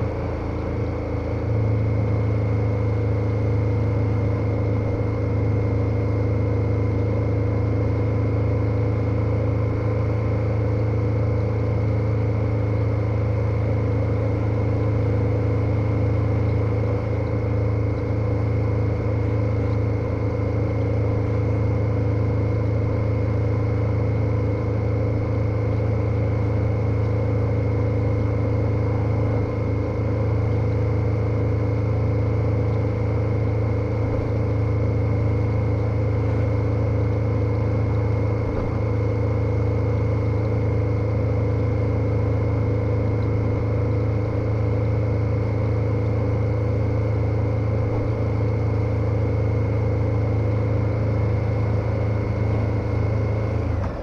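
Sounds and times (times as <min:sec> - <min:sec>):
motorcycle engine running steadily: 0:00.0 - 0:54.0.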